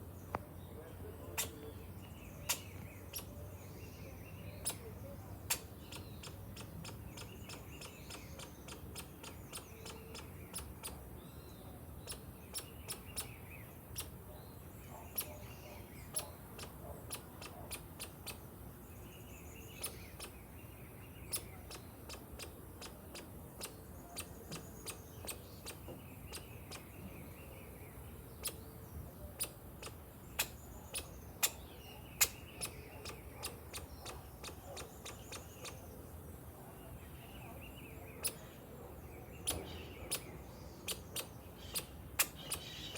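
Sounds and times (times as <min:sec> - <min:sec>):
birds chirping faintly: 0:00.0 - 0:42.9.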